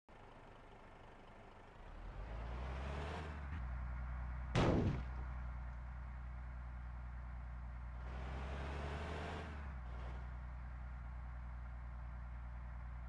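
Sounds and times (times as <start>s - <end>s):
bus engine rumbling: 0.1s - 13.0s.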